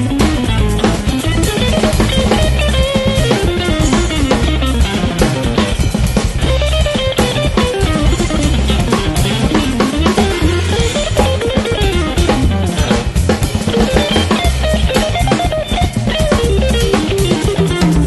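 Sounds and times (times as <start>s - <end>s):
drum kit steady beat: 0.0s - 18.0s
electric bass: 0.0s - 18.0s
melodic guitar line: 0.0s - 18.0s.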